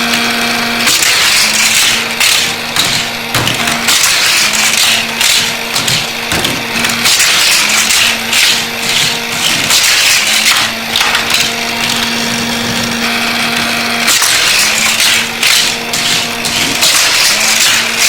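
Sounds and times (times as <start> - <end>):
motorized booster whirring: 0.0 - 18.0
toy cars rattling on plastic track: 0.0 - 18.0.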